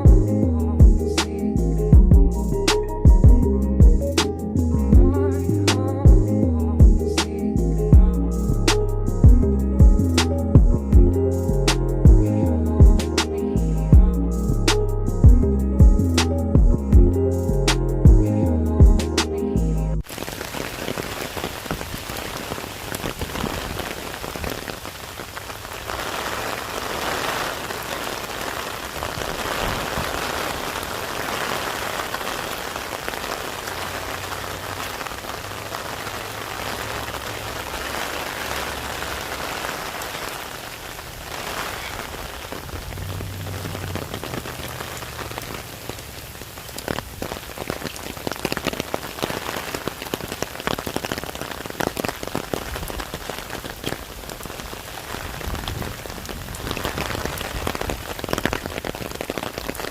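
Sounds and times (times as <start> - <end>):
steady rain falling: 0.0 - 18.2, 20.0 - 59.9.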